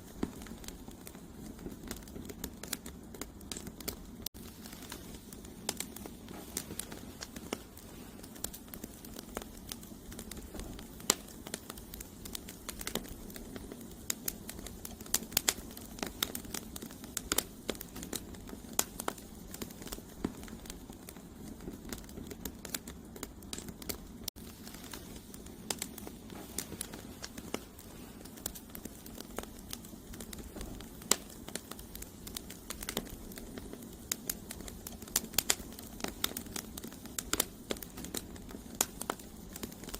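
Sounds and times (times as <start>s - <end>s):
campfire crackling and popping: 0.0s - 39.9s
low hiss of flames: 0.0s - 39.9s.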